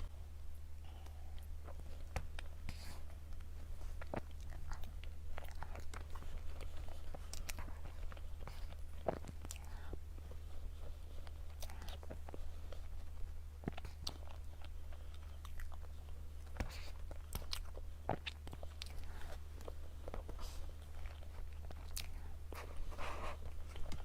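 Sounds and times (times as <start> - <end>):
steady low hum: 0.0 - 24.0
person chewing: 0.8 - 24.0.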